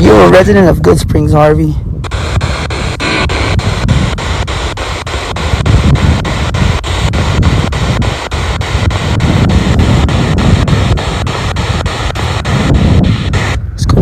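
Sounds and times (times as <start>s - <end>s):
radio static: 0.0s - 14.0s
regular clicks: 2.0s - 13.6s.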